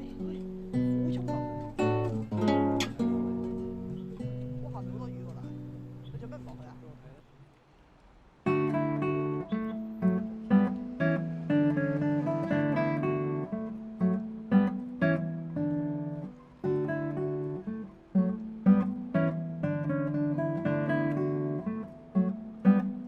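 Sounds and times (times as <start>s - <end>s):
acoustic guitar strummed chords: 0.0s - 7.1s, 8.4s - 23.0s.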